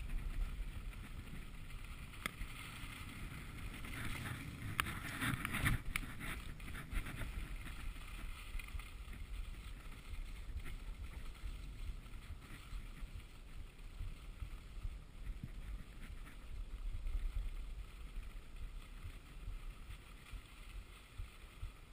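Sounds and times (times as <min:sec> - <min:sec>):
skis scraping over snow: 0:00.0 - 0:21.9
wind buffeting microphone: 0:00.0 - 0:21.9.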